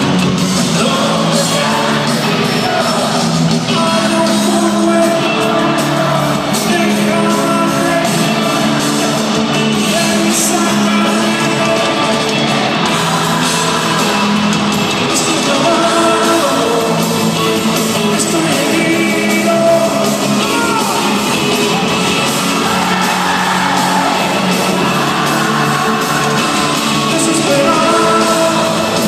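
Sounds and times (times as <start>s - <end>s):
crowd shouting along: 0.0s - 29.0s
electric guitars: 0.0s - 29.0s
lead singer singing: 0.0s - 29.0s.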